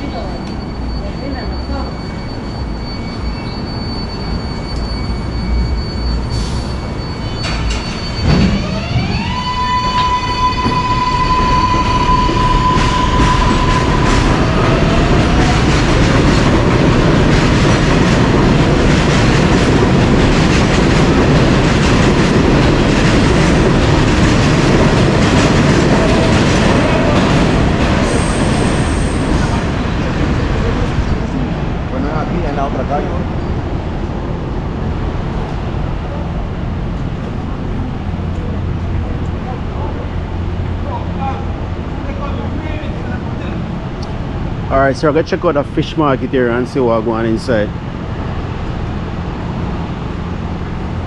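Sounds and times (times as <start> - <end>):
train passing: 0.0 - 51.0
wheels rumbling on rails: 0.0 - 51.0.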